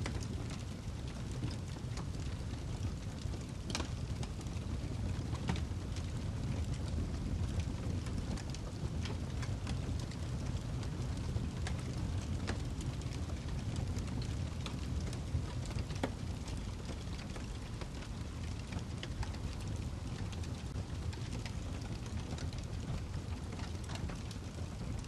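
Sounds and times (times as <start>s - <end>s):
fire crackling in fireplace: 0.0s - 25.0s.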